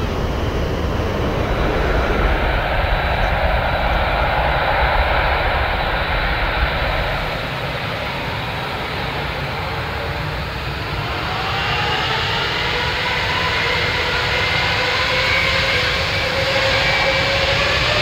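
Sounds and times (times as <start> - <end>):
jet engines with turbine whine: 0.0 - 18.0.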